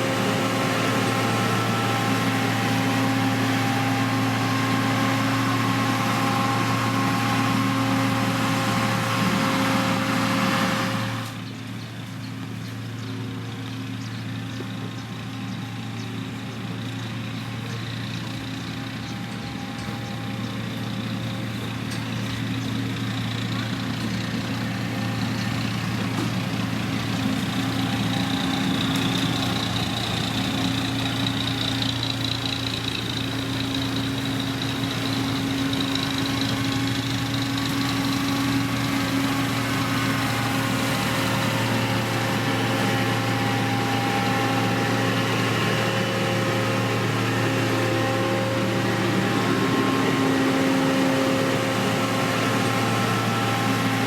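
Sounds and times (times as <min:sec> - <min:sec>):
heavy diesel engine humming: 0:00.0 - 0:54.0.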